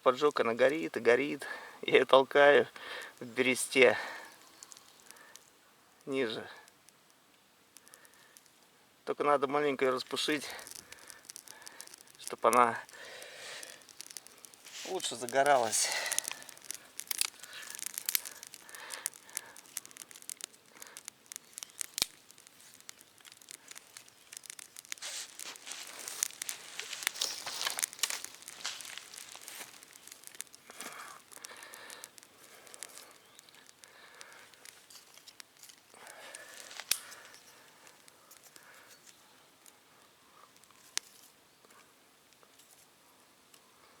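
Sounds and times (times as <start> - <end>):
birch bark tearing and crackling: 1.2 - 8.6, 9.6 - 39.8, 40.4 - 41.3.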